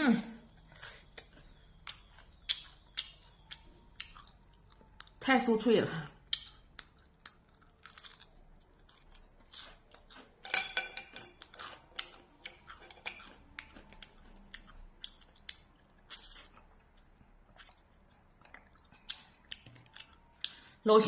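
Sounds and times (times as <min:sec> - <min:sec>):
person chewing crunchy food: 0:00.5 - 0:05.2, 0:06.2 - 0:20.8.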